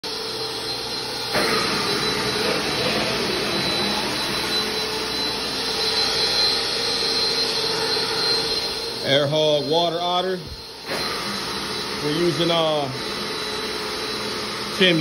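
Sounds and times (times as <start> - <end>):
vacuum motor whining: 0.0 - 15.0.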